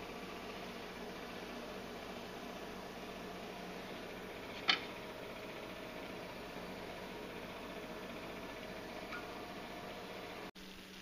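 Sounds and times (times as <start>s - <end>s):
room tone hum and hiss: 0.0s - 11.0s.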